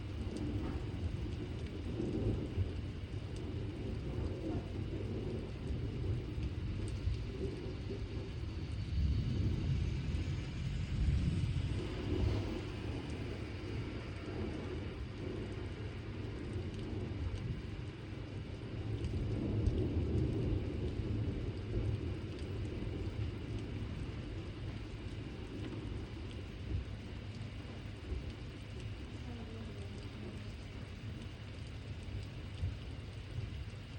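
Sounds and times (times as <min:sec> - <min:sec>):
heavy rain falling: 0:00.0 - 0:33.9
low thunder rumble: 0:00.0 - 0:33.9.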